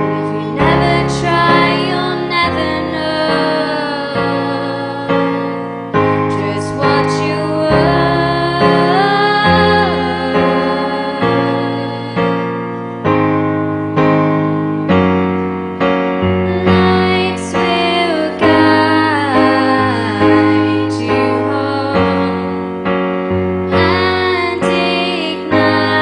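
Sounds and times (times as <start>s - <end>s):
person singing long notes: 0.0s - 12.9s, 16.4s - 22.8s, 23.7s - 26.0s
piano chords: 0.0s - 26.0s.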